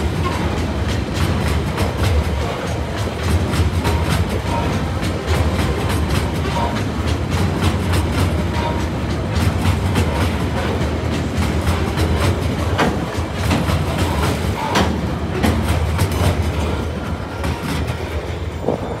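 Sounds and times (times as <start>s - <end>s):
freight train wagons rumbling past: 0.0s - 19.0s
wheels clattering over rail joints: 0.0s - 19.0s.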